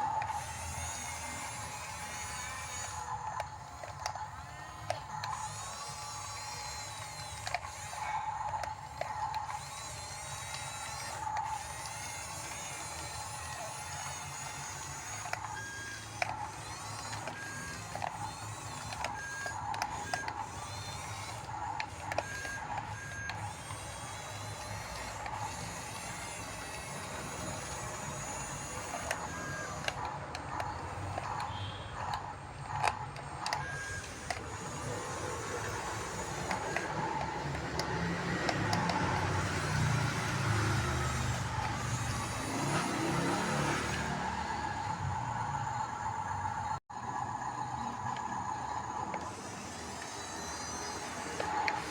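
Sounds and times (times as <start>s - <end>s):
clicks: 0.0s - 46.8s, 47.9s - 51.9s
electric motors whining: 0.0s - 51.9s.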